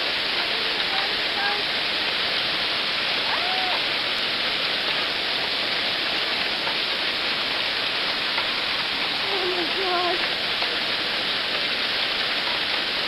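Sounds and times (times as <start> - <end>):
hail and rain falling hard: 0.0 - 13.0.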